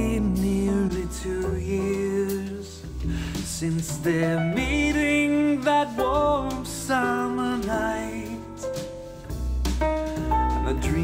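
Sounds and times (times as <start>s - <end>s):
song through speakers: 0.0s - 11.0s.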